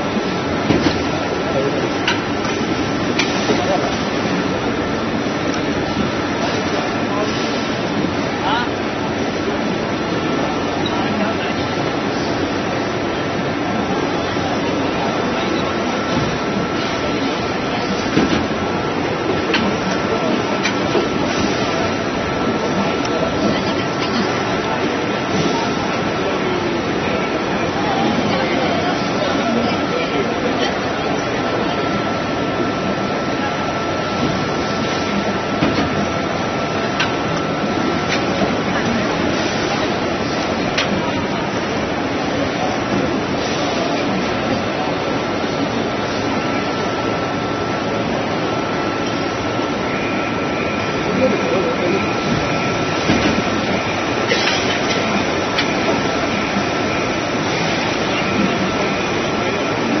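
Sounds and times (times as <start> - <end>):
machine noise: 0.0 - 60.0
thin steady whine: 0.0 - 60.0.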